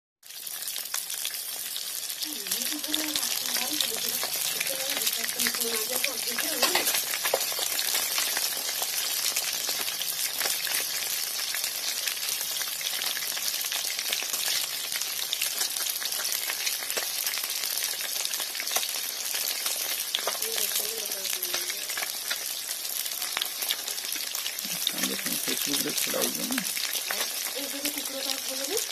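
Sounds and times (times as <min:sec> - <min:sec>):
fish frying in hot oil: 0:00.2 - 0:28.9.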